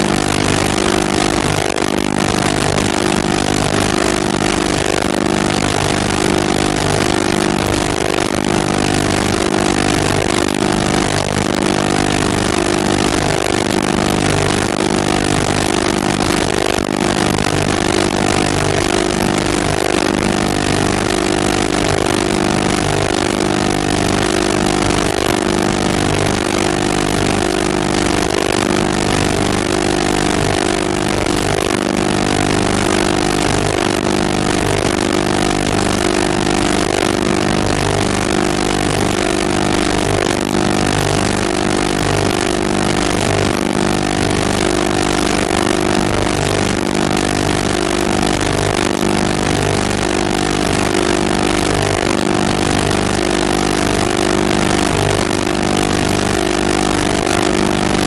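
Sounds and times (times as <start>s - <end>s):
steady mechanical drone: 0.0s - 58.0s.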